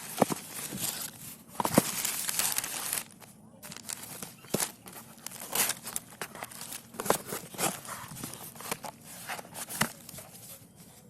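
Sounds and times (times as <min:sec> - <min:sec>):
packaging crinkling: 0:00.0 - 0:10.6.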